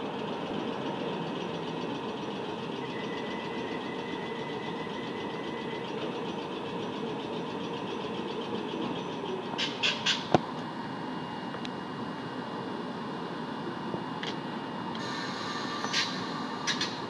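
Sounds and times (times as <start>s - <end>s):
faint high whine: 0.0s - 9.6s, 10.5s - 17.0s
train equipment humming: 0.0s - 17.0s.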